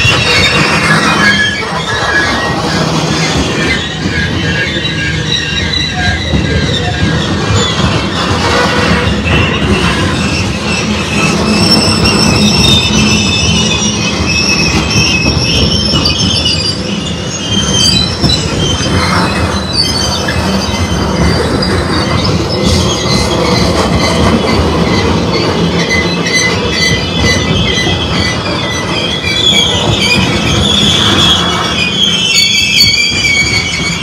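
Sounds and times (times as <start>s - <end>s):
freight train wheels rumbling: 0.0s - 34.0s
high-pitched wheel squeal: 0.0s - 34.0s.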